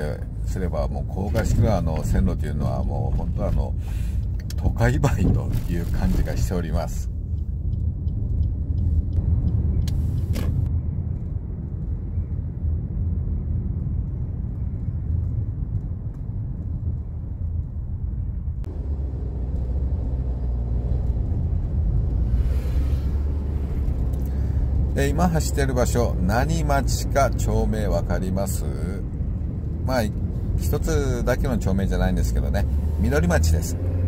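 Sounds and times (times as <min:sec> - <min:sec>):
car cabin road rumble: 0:00.0 - 0:34.0.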